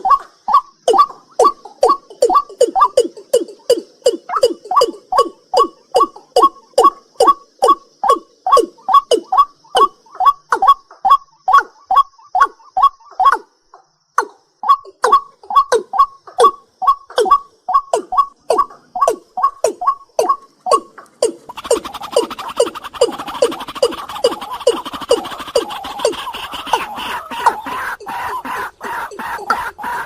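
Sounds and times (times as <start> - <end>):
night bird calling: 0.0 - 13.6, 14.6 - 30.0.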